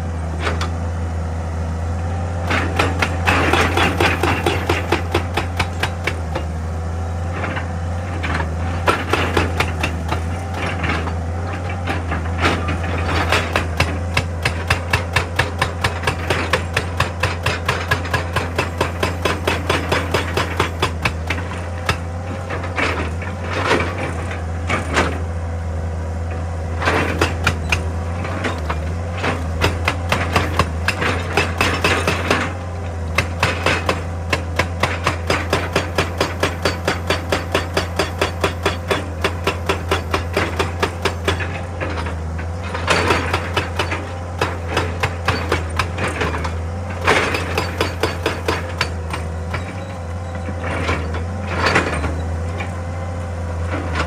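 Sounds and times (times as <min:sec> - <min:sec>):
hydraulic breaker hammering rock: 0:02.1 - 0:54.0.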